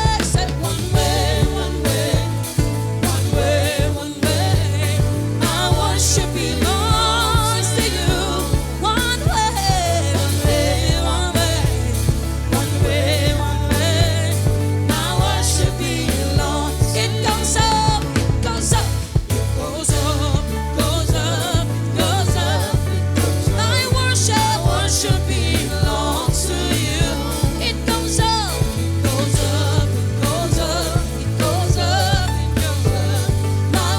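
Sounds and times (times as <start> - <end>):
bass line: 0.0 - 33.9
drum beats: 0.0 - 33.9
person singing: 0.0 - 33.9.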